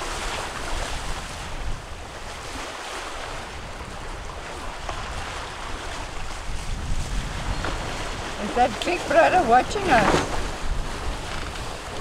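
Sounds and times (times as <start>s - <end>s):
ocean water rushing: 0.0s - 12.0s
wind buffeting microphone: 0.0s - 12.0s.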